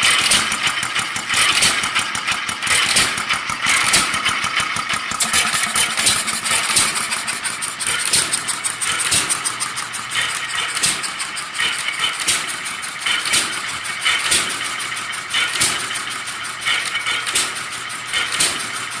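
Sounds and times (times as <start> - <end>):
engine knocking: 0.0 - 19.0
engine parts clicking: 0.0 - 19.0.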